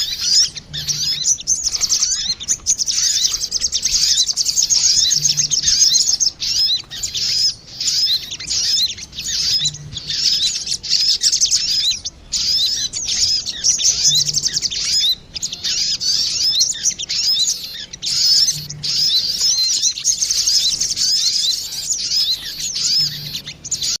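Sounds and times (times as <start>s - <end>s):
sunbirds twittering chirps: 0.0s - 24.0s.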